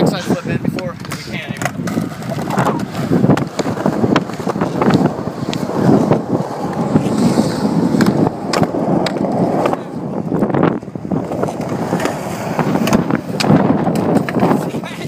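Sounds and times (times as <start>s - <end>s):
skateboard wheels rolling on pavement: 0.0s - 15.0s
skateboard clacks: 0.3s - 15.0s.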